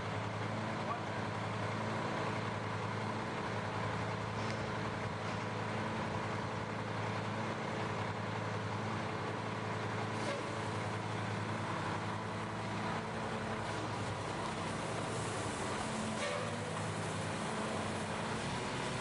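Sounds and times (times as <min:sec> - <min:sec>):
garbage truck engine droning: 0:00.0 - 0:19.0.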